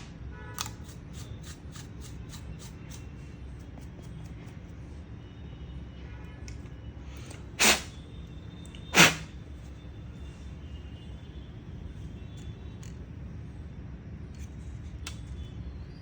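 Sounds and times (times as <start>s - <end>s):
air blasts through a fan: 0.0s - 5.1s, 6.9s - 16.0s.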